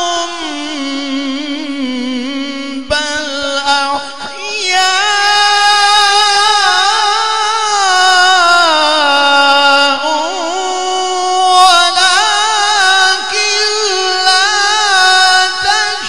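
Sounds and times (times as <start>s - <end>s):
man reciting through a microphone: 0.0s - 16.0s.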